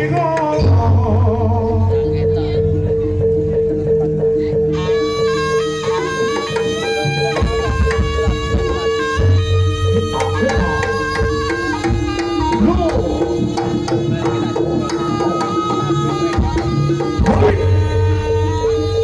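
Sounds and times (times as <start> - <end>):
held melody line: 0.0 - 19.0
hand drum strokes: 3.3 - 19.0.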